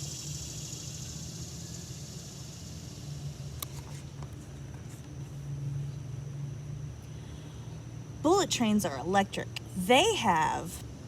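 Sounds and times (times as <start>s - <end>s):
faint high whine: 0.0s - 11.0s
steady low hum: 0.0s - 11.0s.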